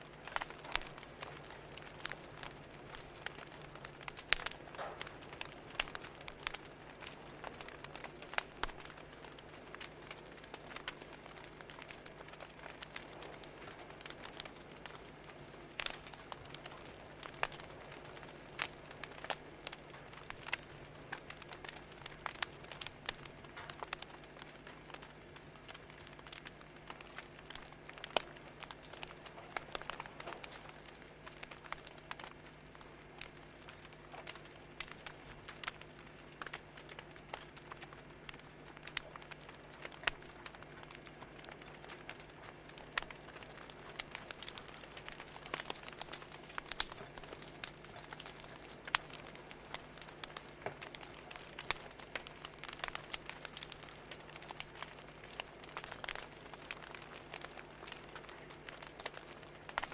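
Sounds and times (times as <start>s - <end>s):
faint steady hum: 0.0s - 59.9s
wood fire crackling: 0.0s - 59.9s.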